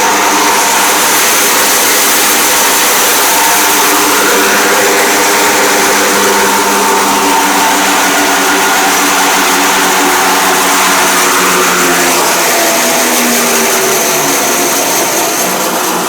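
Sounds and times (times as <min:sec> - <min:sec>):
bandsaw running: 0:00.0 - 0:16.0.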